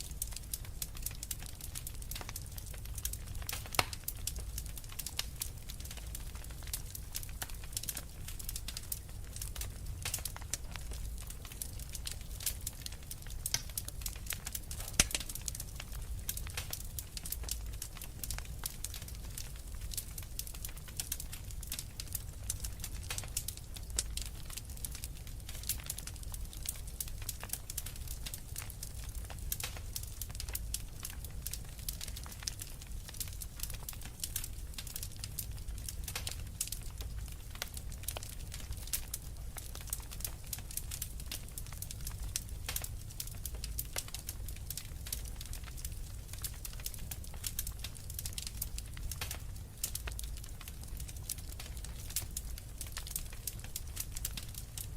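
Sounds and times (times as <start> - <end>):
low rumble of fire: 0.0 - 54.9
wood fire crackling: 0.0 - 54.9.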